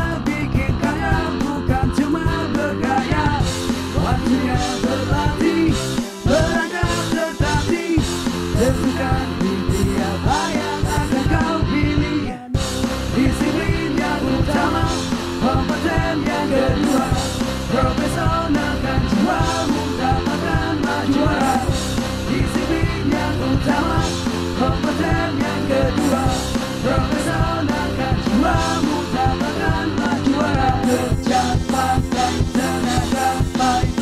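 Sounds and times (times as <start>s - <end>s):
upbeat rock song with singer: 0.0s - 34.0s.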